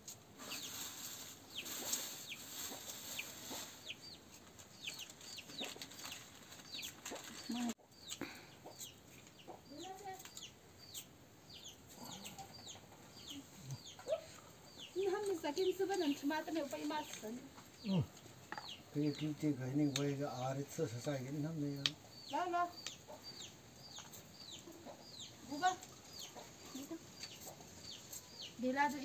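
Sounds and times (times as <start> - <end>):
chickens clucking: 0.4 - 20.0, 21.8 - 28.6
chicks peeping: 0.4 - 20.1, 21.3 - 28.6.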